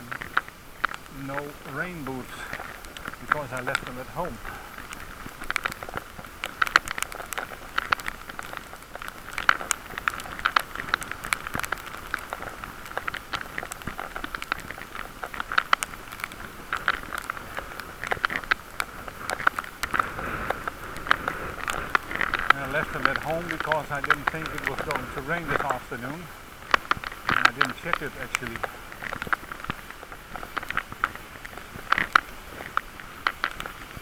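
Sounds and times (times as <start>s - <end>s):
irregular crackling and ticking: 0.0s - 34.0s
steady hiss: 0.0s - 34.0s.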